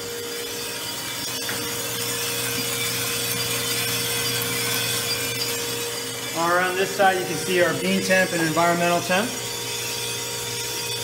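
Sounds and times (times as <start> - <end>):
beans tumbling in roaster drum: 0.0 - 11.0
roaster motor and fans humming: 0.0 - 11.0.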